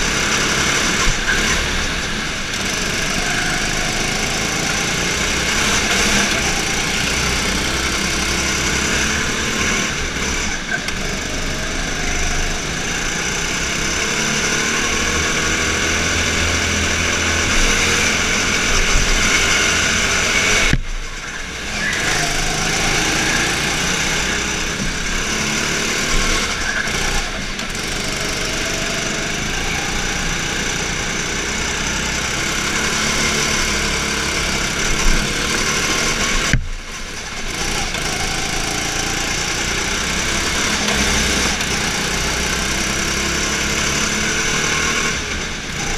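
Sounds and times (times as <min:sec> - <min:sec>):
go-kart engine running hard: 0:00.0 - 0:45.9.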